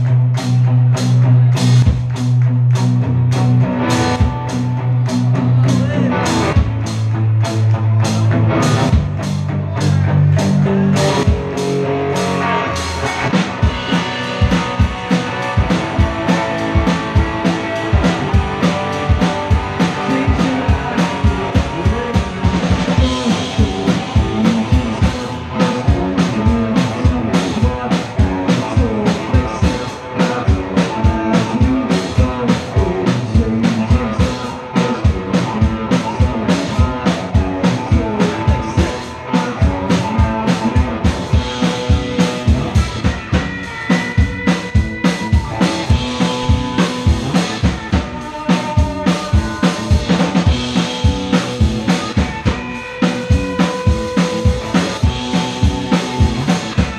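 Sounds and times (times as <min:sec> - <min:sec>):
rock band playing live: 0:00.0 - 0:56.9
steady drum beat: 0:00.0 - 0:56.9.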